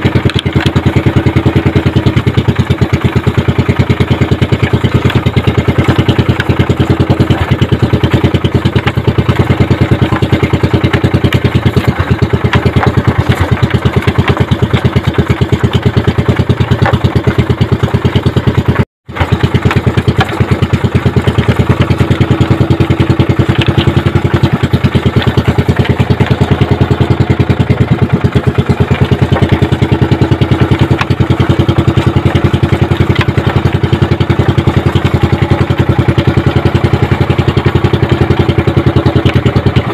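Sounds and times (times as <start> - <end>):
small boat engine puttering: 0.0 - 39.9.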